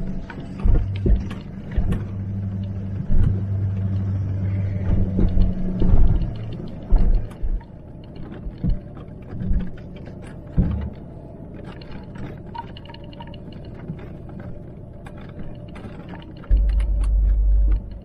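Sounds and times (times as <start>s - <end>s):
creaks and rattles: 0.0s - 18.0s
diesel engine rumbling: 0.0s - 18.0s
wheels thumping over ruts: 0.0s - 18.0s.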